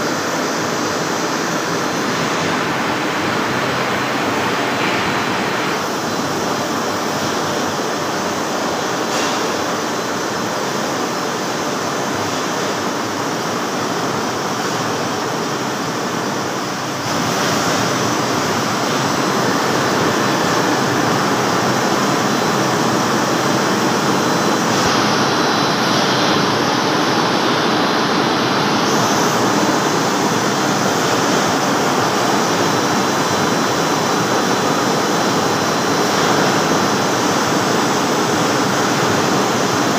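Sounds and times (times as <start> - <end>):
lathe rushing machine noise: 0.0 - 39.9.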